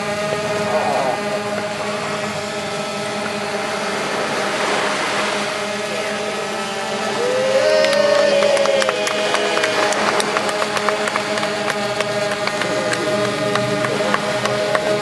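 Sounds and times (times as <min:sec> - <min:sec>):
drone propellers buzzing hum: 0:00.0 - 0:15.0.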